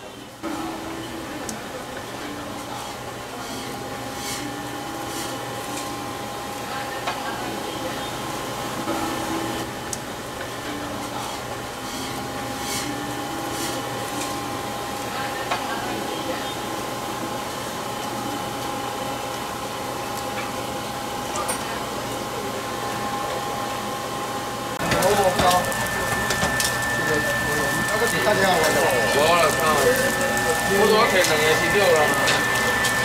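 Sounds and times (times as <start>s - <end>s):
machine hum with high whine: 0.0s - 33.0s.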